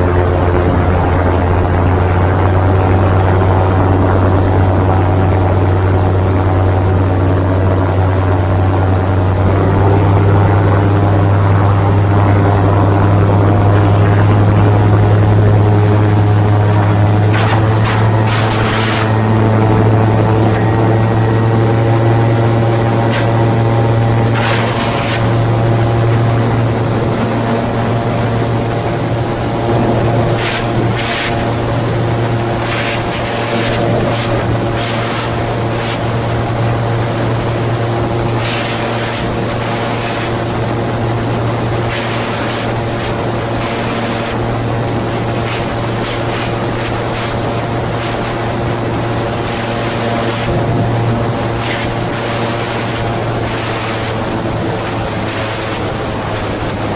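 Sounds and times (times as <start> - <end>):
aircraft engine and propeller drone: 0.0 - 56.9
wind noise on microphone: 0.0 - 56.9.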